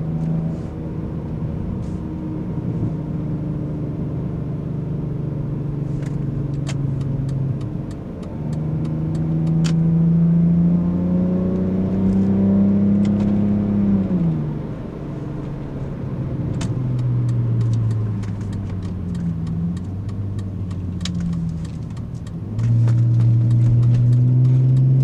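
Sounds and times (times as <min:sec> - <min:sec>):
car engine and exhaust drone: 0:00.0 - 0:25.0.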